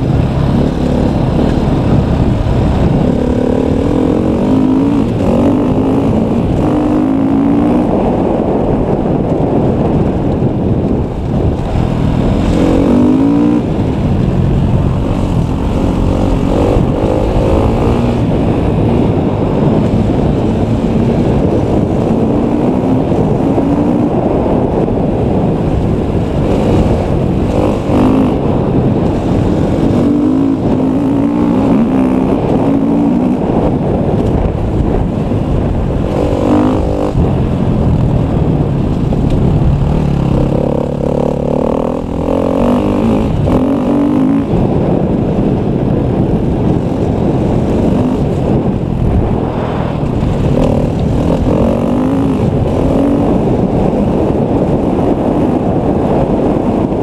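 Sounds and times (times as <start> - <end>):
motorcycle engine revving: 0.0 - 57.0
wind buffeting microphone: 0.0 - 57.0.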